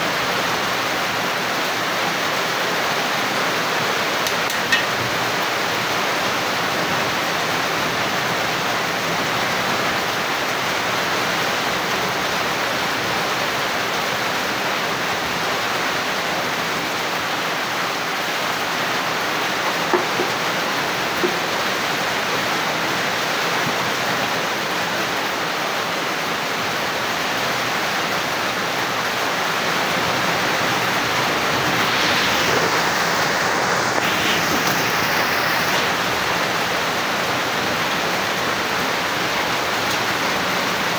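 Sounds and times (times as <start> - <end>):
heavy rain pouring: 0.0 - 40.9
runoff streaming off roof: 0.1 - 40.9.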